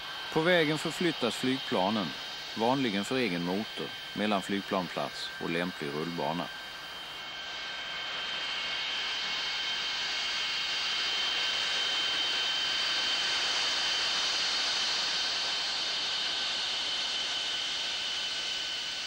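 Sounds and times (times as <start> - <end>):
jet engine whining: 0.0 - 19.0.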